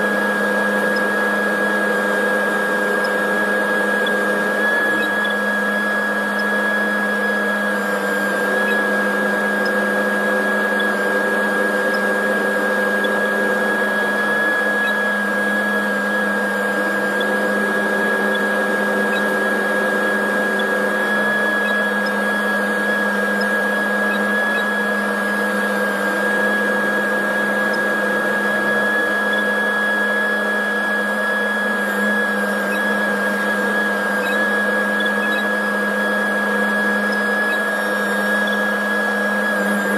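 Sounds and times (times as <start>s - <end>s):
tractor engine hum with high whine: 0.0s - 39.9s.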